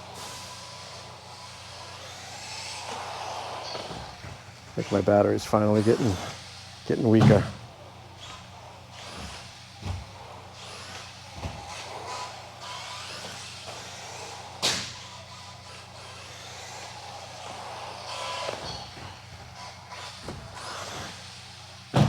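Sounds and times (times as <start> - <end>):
rc car motor whine: 0.0 - 22.0.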